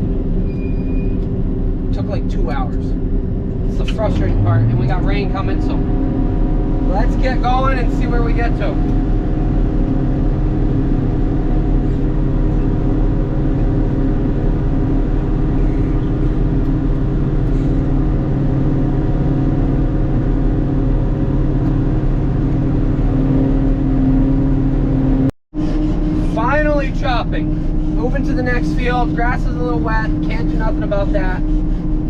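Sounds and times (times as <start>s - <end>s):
harvester engine running: 0.0s - 32.0s.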